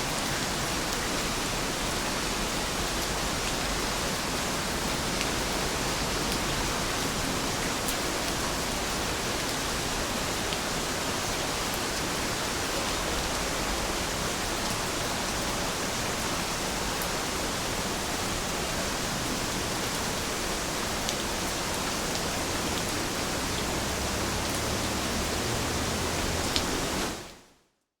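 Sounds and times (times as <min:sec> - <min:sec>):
steady rain falling: 0:00.0 - 0:27.5.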